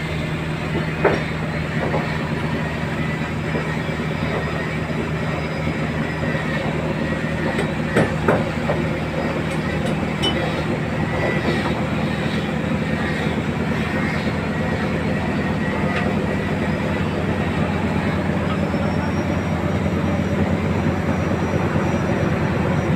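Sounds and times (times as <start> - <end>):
boat engine humming: 0.0 - 22.9.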